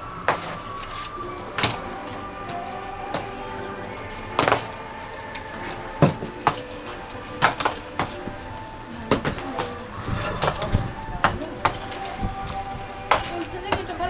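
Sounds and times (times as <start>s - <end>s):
background music with held tones: 0.0s - 14.0s
hard objects knocking and clinking: 0.0s - 14.0s.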